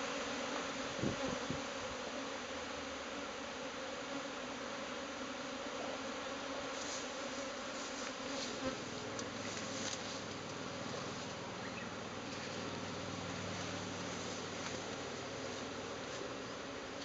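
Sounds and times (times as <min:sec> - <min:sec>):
swarm of bees buzzing: 0:00.0 - 0:17.0.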